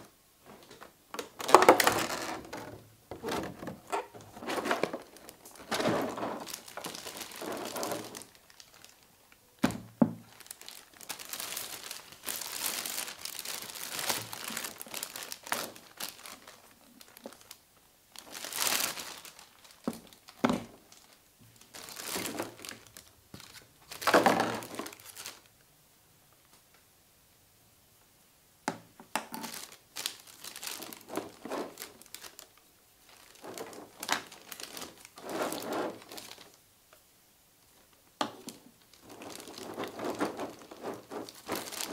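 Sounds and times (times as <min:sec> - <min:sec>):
plastic bags crinkling: 0:00.0 - 0:25.5, 0:29.2 - 0:36.6, 0:37.8 - 0:41.9.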